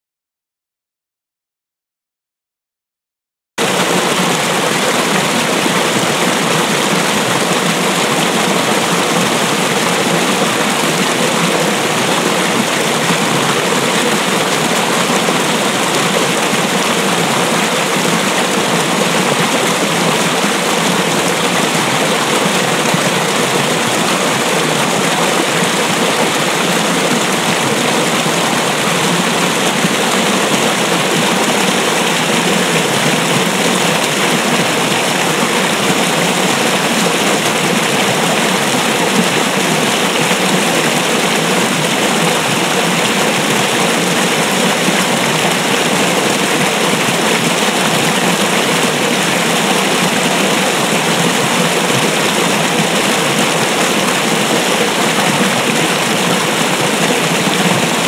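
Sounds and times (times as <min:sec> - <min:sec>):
stream rushing and splashing: 0:03.6 - 0:58.0.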